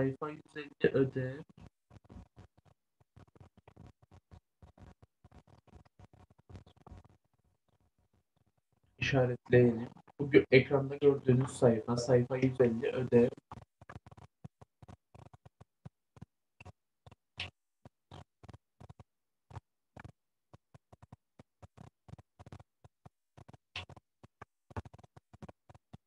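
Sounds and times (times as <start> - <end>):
faint irregular clicks and ticks: 0.0 - 26.0.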